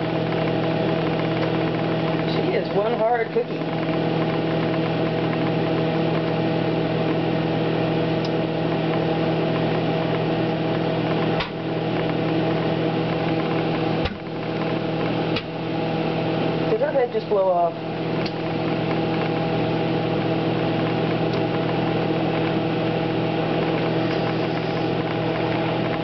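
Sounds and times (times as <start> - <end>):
microwave oven hum: 0.0 - 26.0.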